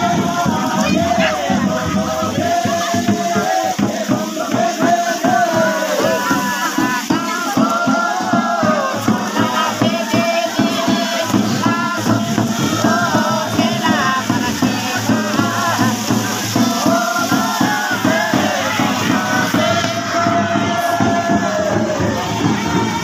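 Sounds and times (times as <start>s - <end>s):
crowd singing together: 0.0s - 23.0s
frame drum beat: 0.0s - 23.0s.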